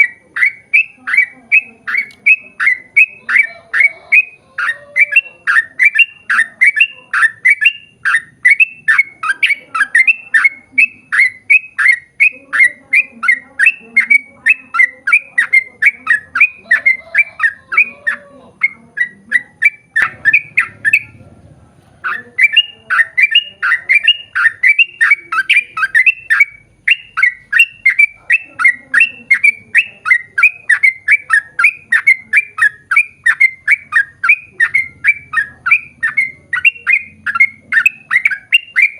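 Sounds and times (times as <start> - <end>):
bulbul singing sharp notes: 0.0 - 21.3, 22.0 - 38.9.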